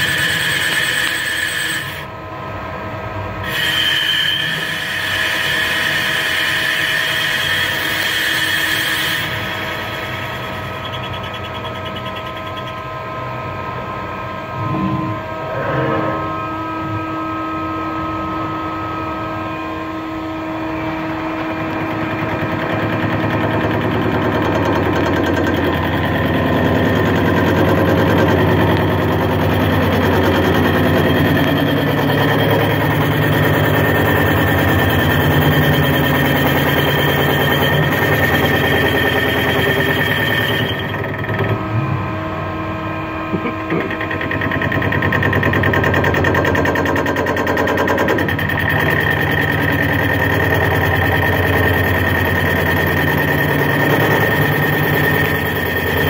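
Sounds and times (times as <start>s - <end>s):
lathe spindle running: 0.0s - 56.0s
steady machine tones: 0.0s - 56.0s.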